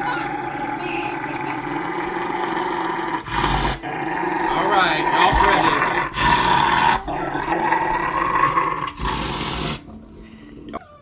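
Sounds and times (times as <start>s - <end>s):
dog growling: 0.0s - 9.9s.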